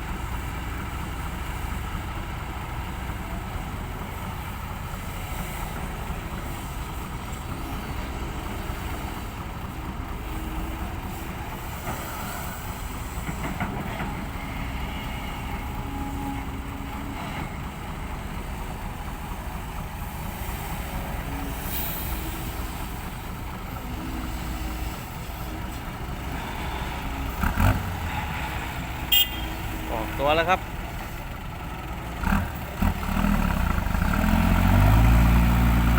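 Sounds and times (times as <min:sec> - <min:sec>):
heavy diesel engines running: 0:00.0 - 0:35.9.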